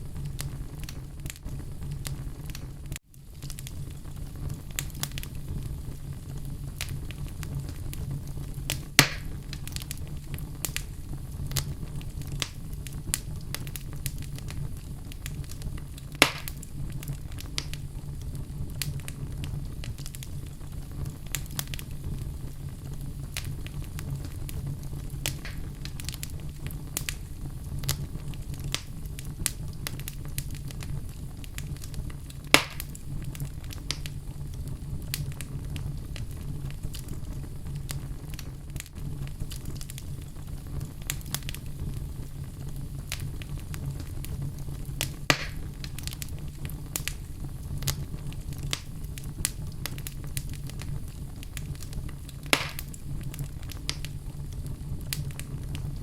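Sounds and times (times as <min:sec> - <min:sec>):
fire pops: 0:00.0 - 0:56.0
wood fire crackling: 0:00.0 - 0:56.0.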